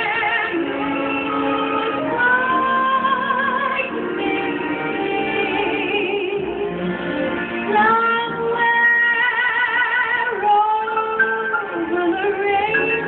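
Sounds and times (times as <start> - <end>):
woman singing into microphone: 0.0 - 6.9, 7.6 - 13.0.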